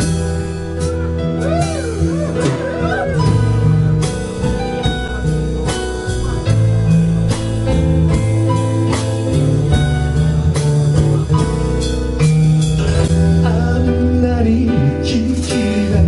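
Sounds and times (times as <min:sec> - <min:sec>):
drums keeping steady beat: 0:00.0 - 0:13.7
guitar: 0:00.0 - 0:16.0
held bass notes: 0:00.0 - 0:16.0.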